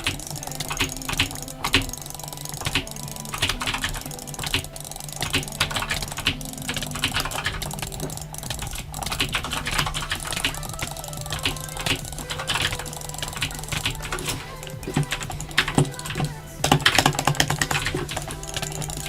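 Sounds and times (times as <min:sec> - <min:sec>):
rapid irregular clicking: 0:00.0 - 0:19.0
steady low hum: 0:00.0 - 0:19.0.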